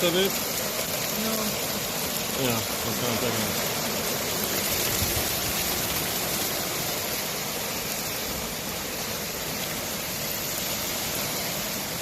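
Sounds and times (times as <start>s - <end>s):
hail and freezing rain hissing: 0.0s - 12.0s.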